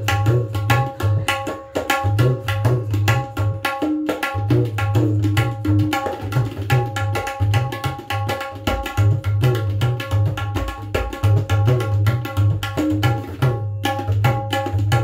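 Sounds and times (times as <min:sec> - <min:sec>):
tabla playing fast strokes: 0:00.0 - 0:15.0.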